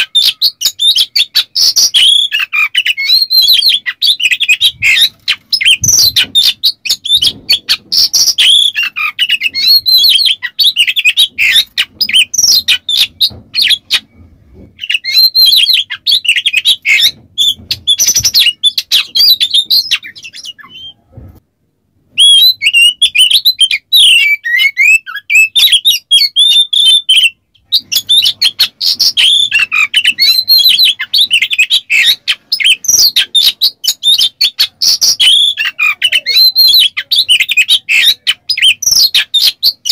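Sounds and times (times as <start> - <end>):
bird singing chirps and whistles: 0.0 - 14.1, 14.8 - 21.0, 22.2 - 39.9.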